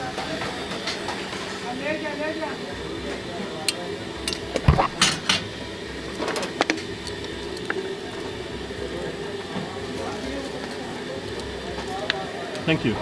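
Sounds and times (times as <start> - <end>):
food stall background hum: 0.0 - 13.0.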